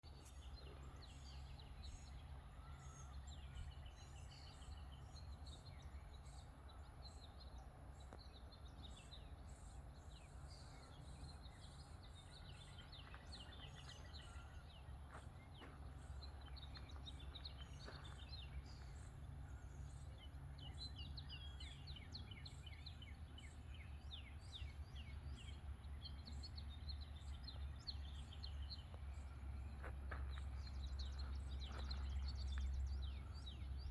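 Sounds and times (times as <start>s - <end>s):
small birds chirping and singing: 0.0s - 33.9s.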